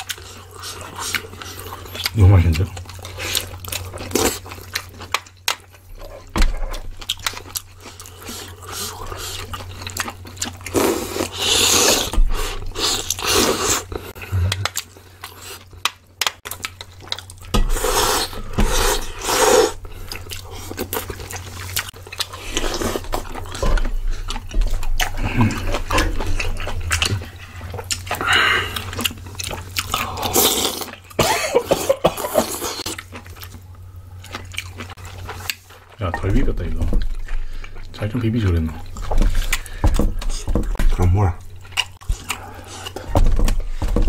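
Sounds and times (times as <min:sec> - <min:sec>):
chewing: 0:00.0 - 0:44.0.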